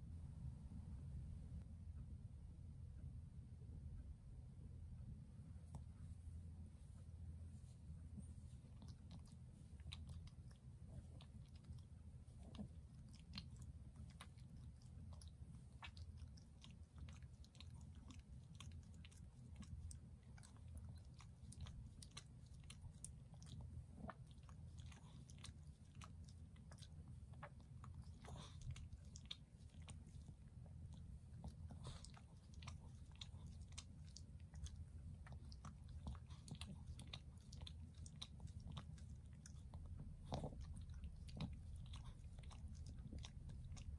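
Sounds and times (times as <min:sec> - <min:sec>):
low steady hum: 0:00.0 - 0:43.9.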